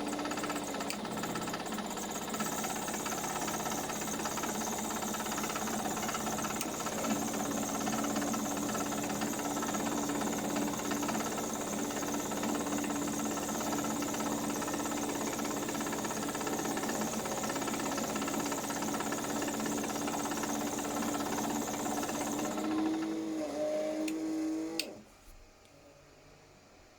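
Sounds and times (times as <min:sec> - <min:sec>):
washing machine spinning: 0:00.0 - 0:24.9.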